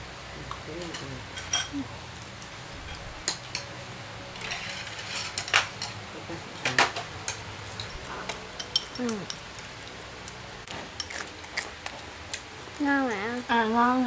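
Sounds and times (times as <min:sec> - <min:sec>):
utensils clinking against dishes: 0:00.4 - 0:01.8, 0:02.4 - 0:12.4.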